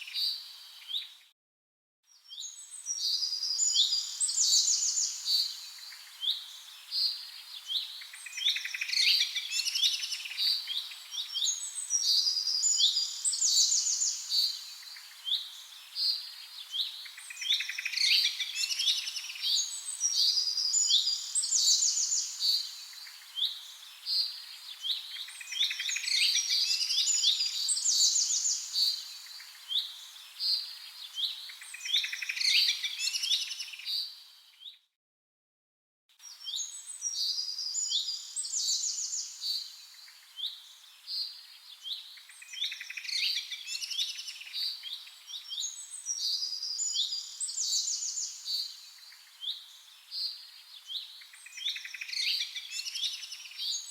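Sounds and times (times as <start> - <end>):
small birds chirping and trilling: 2.1 - 34.8, 36.2 - 53.9.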